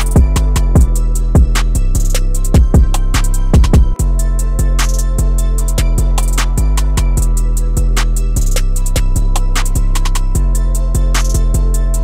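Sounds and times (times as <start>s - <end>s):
instrumental music with drums and bass: 0.0s - 12.0s.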